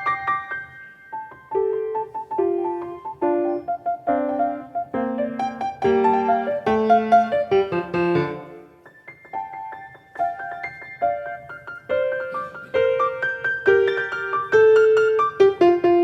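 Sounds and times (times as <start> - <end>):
solo piano piece: 0.0 - 16.0.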